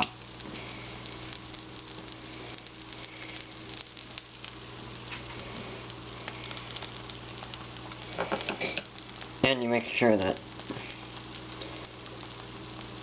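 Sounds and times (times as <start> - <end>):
sandwiches sizzling in butter: 0.0 - 13.0
small pops of frying: 0.0 - 13.0.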